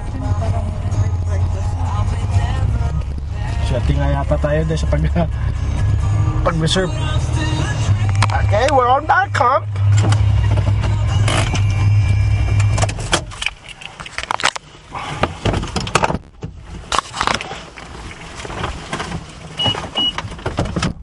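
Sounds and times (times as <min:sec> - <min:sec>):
car engine and cabin rumble: 0:00.0 - 0:21.0.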